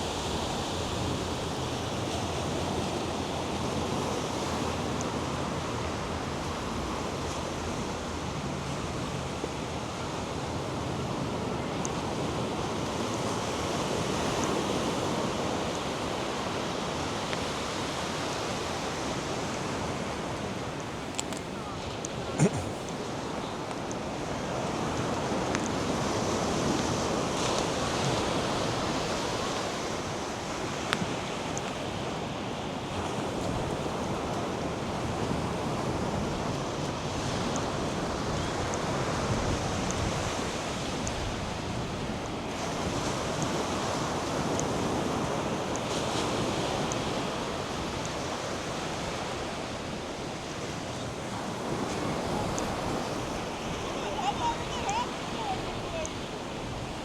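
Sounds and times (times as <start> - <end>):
surf washing onto a beach: 0.0 - 57.0
wind: 0.0 - 57.0.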